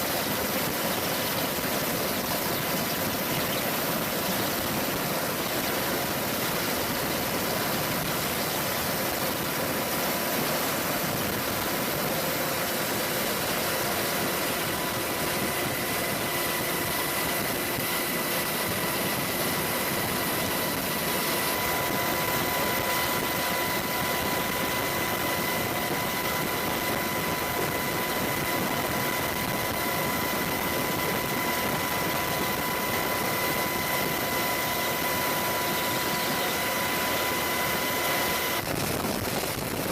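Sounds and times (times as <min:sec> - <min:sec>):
helicopter turbine engines whining: 0:00.0 - 0:39.9.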